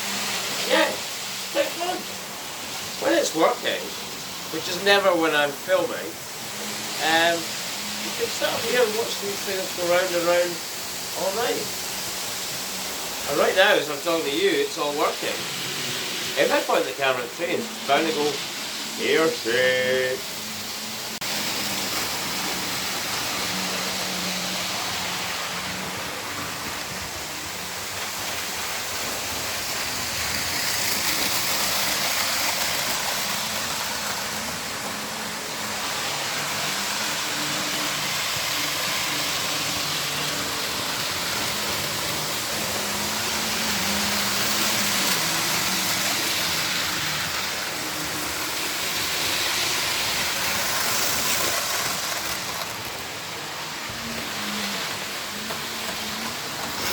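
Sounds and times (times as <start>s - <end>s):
model train wheels on track: 0.0s - 56.9s.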